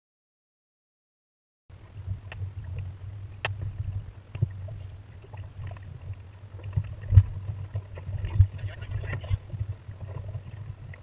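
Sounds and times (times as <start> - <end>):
water along hull: 1.7 - 11.0
wind rumbling on microphone: 1.7 - 11.0.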